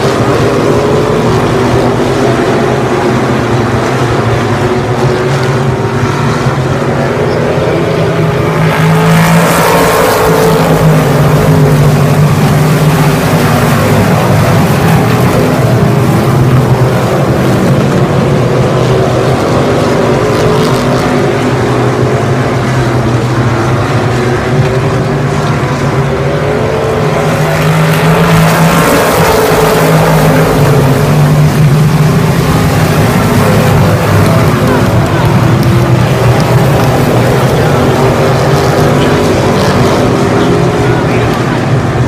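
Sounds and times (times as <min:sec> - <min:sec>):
race car engines droning: 0:00.0 - 0:42.0.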